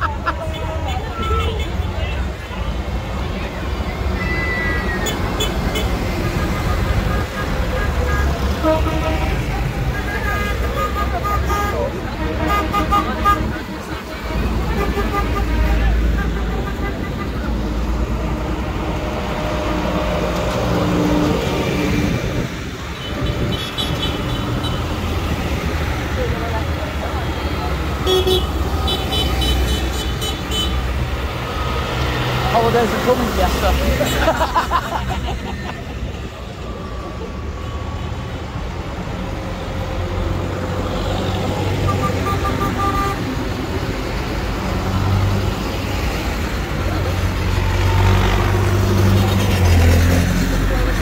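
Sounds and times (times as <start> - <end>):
tractor engines rumbling: 0.0 - 51.0.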